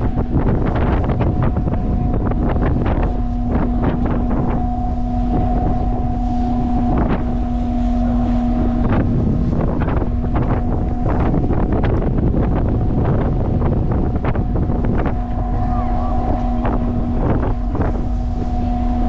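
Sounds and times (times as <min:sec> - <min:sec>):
steady ship hum: 0:00.0 - 0:19.0
wind buffeting microphone: 0:00.0 - 0:19.0.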